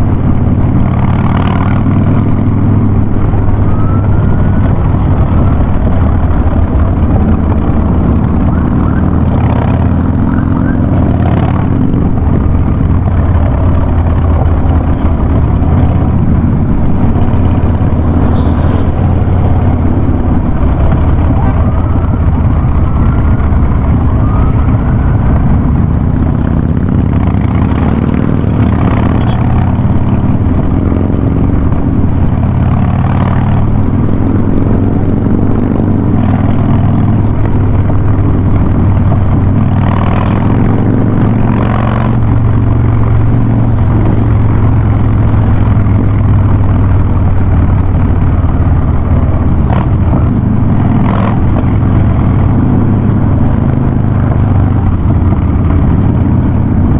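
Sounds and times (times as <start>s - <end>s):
motorcycle exhaust note: 0.0s - 56.9s.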